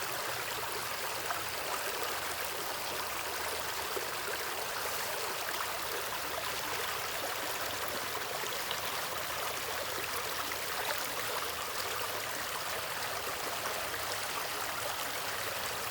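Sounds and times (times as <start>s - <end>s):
stream water running over rocks: 0.0s - 15.9s.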